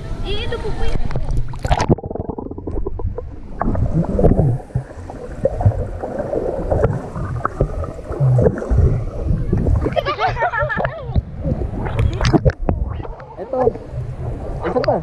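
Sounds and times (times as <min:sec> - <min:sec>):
pool water splashing: 0:00.0 - 0:15.0
underwater rumbling and gurgling: 0:00.3 - 0:15.0.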